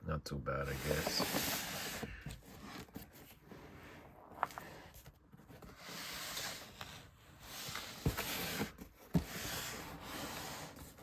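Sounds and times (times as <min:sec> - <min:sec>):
cardboard box rustling: 0:00.7 - 0:11.0.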